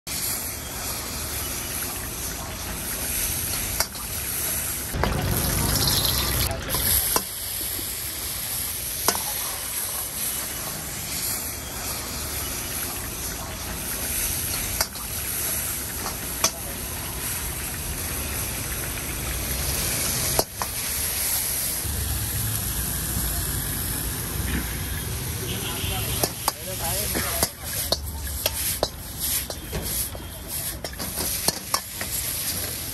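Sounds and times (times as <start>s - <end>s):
gas burner hissing: 0.1s - 32.9s
liquid sizzling in hot wok: 0.1s - 32.9s.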